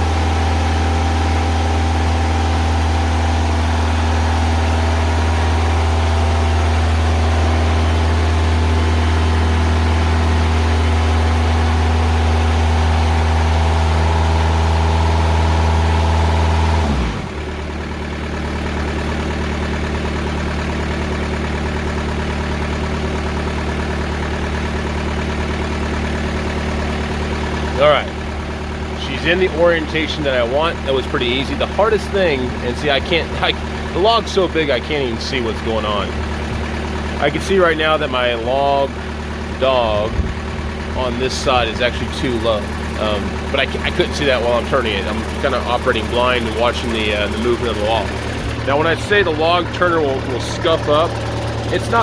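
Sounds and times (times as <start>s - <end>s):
diesel engine running: 0.0s - 52.0s
hydraulics turning log: 0.0s - 52.0s.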